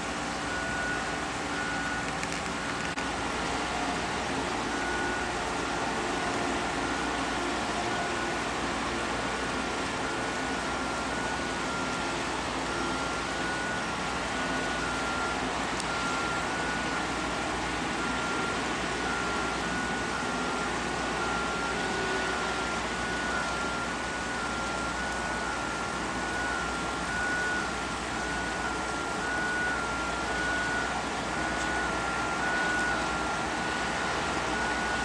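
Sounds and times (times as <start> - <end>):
construction machinery engine: 0.0 - 35.0.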